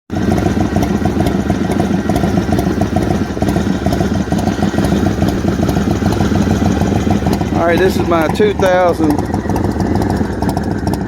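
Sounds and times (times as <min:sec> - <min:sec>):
motorcycle engine idling: 0:00.1 - 0:11.0.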